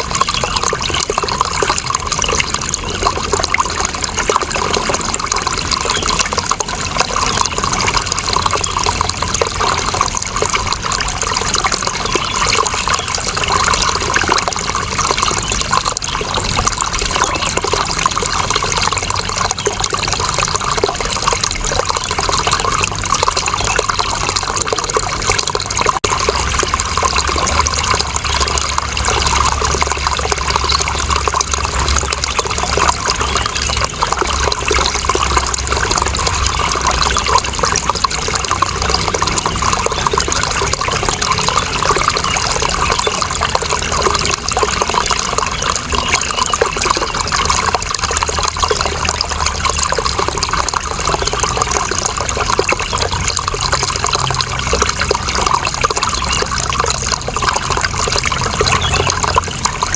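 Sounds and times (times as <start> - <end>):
water flowing and splashing: 0.0 - 59.9.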